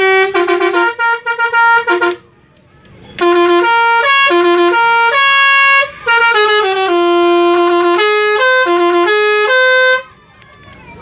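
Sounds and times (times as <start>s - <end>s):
multi-tone bus horn tune: 0.0s - 2.4s, 3.2s - 10.1s.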